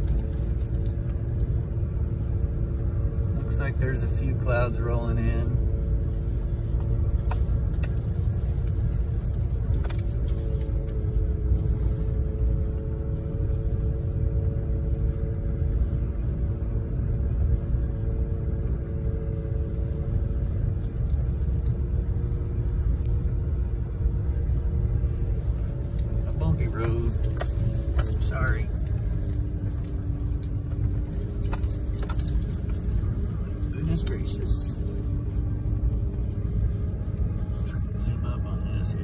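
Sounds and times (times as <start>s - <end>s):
engine and drivetrain hum: 0.0s - 39.0s
tyres rumbling on road: 0.0s - 39.0s.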